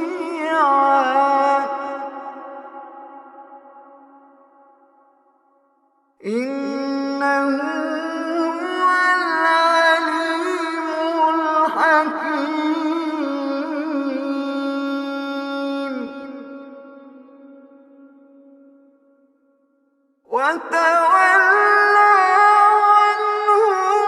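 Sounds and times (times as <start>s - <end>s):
person chanting melodically: 0.0s - 5.2s, 6.2s - 19.0s, 20.3s - 24.0s.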